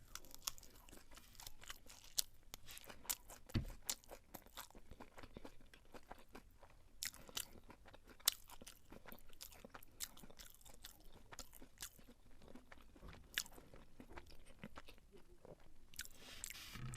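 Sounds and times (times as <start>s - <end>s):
close chewing with mouth clicks: 0.0s - 16.8s.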